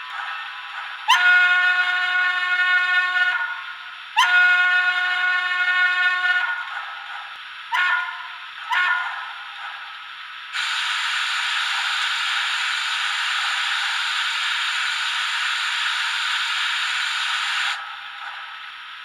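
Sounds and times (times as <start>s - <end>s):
steam hiss: 0.0s - 19.0s.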